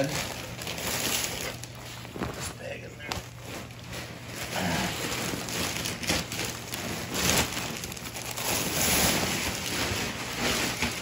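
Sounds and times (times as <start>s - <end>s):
paper filter bag rustling: 0.0s - 11.0s.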